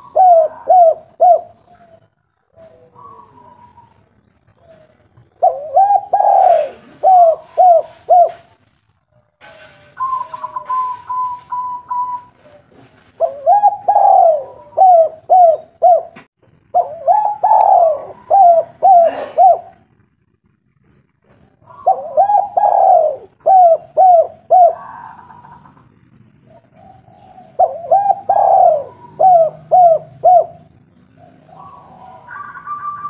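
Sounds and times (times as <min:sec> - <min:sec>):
dove cooing: 0:00.0 - 0:08.6, 0:10.0 - 0:19.9, 0:21.6 - 0:33.0.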